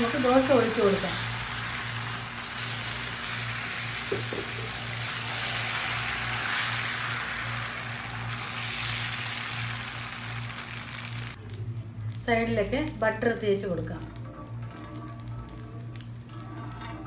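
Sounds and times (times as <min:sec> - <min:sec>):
batter sizzling on a griddle: 0:00.0 - 0:17.0.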